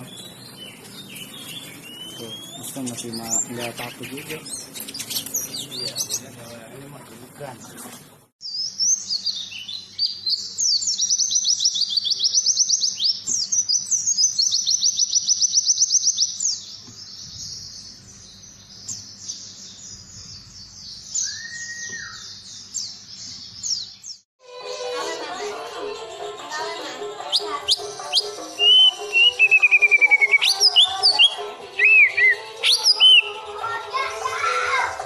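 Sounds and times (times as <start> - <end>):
songbird trilling and chirping: 0.0 - 6.6, 7.7 - 24.2, 27.3 - 33.4.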